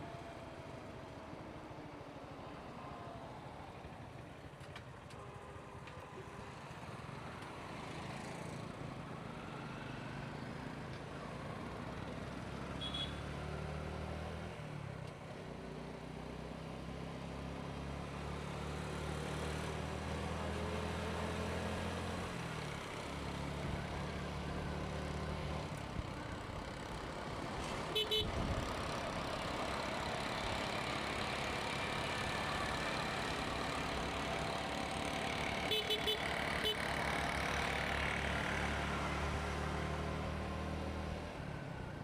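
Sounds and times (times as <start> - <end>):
road noise: 0.0 - 42.0.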